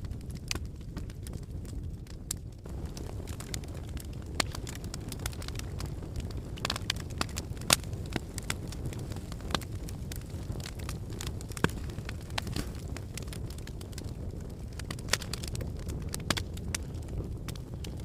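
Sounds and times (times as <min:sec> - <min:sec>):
logs crackling and popping: 0:00.0 - 0:18.0
low rumble of flames: 0:00.0 - 0:18.0.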